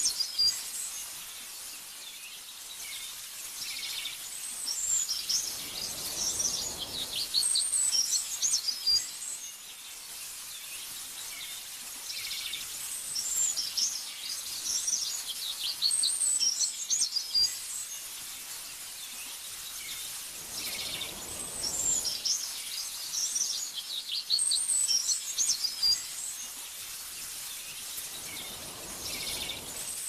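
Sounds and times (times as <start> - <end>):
songbird chirping and trilling: 0.0 - 18.2, 18.8 - 30.0
faint ambient hiss: 0.0 - 30.0.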